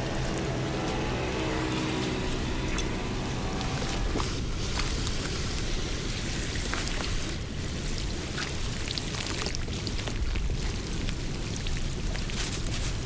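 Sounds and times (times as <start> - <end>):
water splashes and drips: 0.1 - 13.0.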